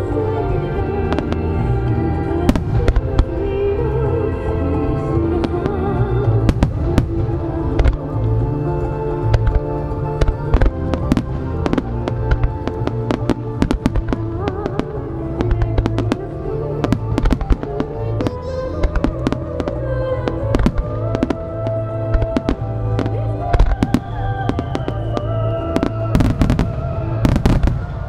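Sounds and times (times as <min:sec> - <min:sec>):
music: 0:00.0 - 0:28.0
fireworks bursting: 0:05.4 - 0:28.0.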